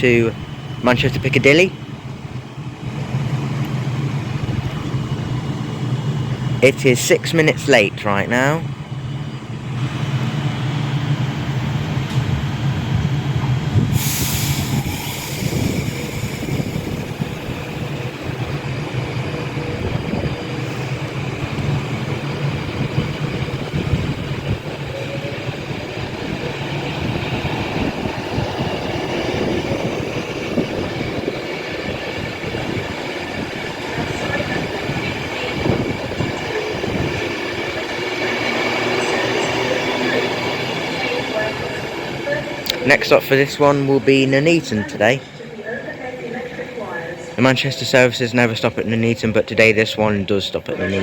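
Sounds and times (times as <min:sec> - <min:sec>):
electric train running past: 0:00.0 - 0:51.0.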